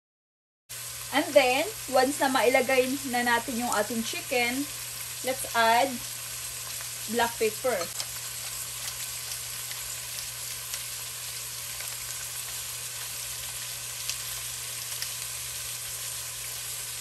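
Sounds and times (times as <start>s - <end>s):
chicken sizzling in oil: 0.7s - 17.0s.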